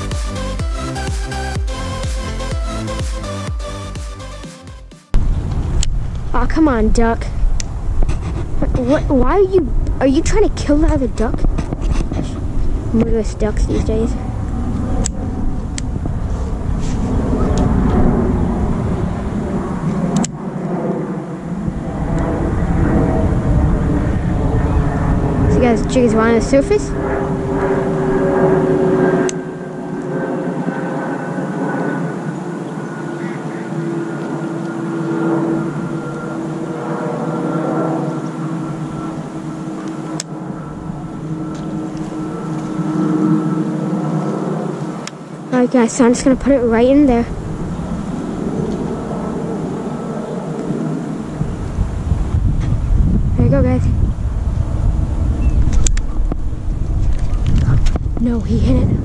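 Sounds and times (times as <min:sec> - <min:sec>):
distant motor humming: 0:00.0 - 0:52.4
wind buffeting microphone: 0:05.1 - 0:59.0.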